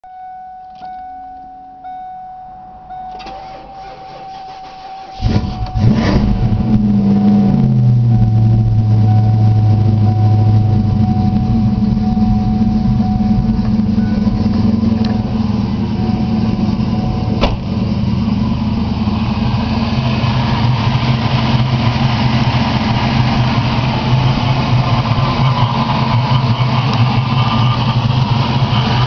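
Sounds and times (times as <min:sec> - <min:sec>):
car engine starting and idling: 0:00.2 - 0:29.0
starter whine: 0:01.8 - 0:29.0.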